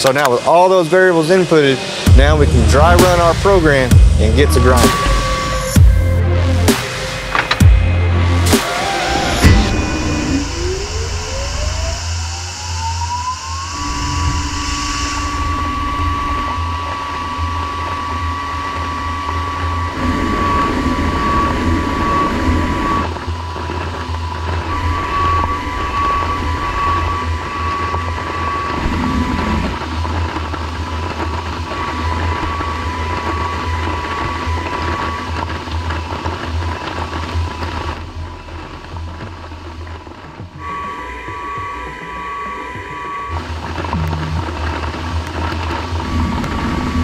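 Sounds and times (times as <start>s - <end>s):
coolant spray rushing: 0.0s - 7.6s, 8.2s - 41.2s, 43.3s - 47.0s
grinder high whine: 0.0s - 47.0s.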